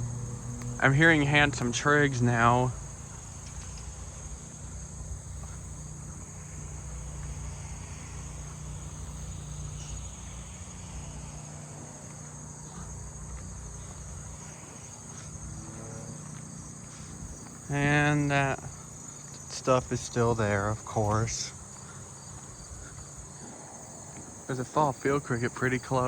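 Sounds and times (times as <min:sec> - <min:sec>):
low steady hum: 0:00.0 - 0:22.0
crickets trilling: 0:00.0 - 0:26.0.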